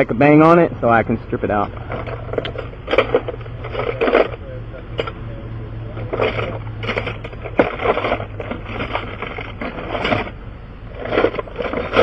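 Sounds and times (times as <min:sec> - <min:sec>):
steady low hum: 0:00.0 - 0:12.0
tools clattering and scraping: 0:01.5 - 0:05.3, 0:06.0 - 0:12.0.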